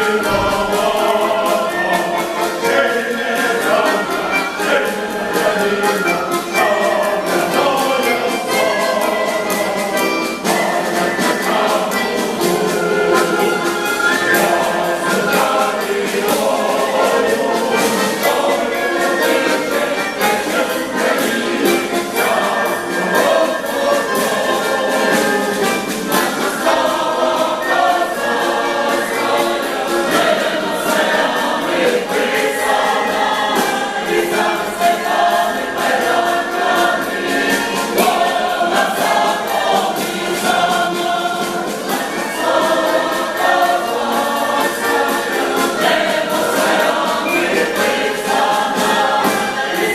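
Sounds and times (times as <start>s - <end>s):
choir singing in parts: 0.0s - 49.9s
instrumental accompaniment: 0.0s - 49.9s.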